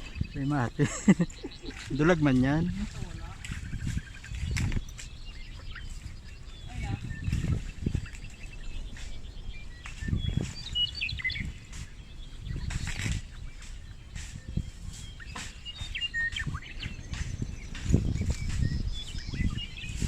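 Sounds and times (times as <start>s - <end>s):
birds chirping: 0.0s - 20.0s
low rumbling and rustling thumps: 0.0s - 20.0s.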